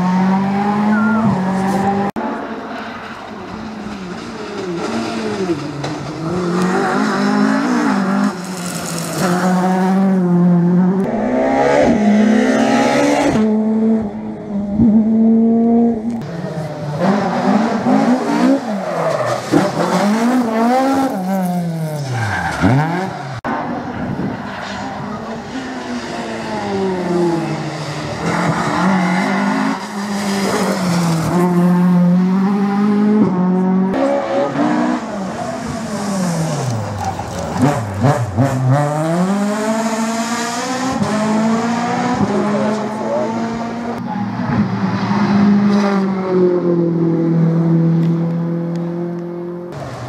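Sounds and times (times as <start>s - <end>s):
rally car engines revving: 0.0s - 50.0s.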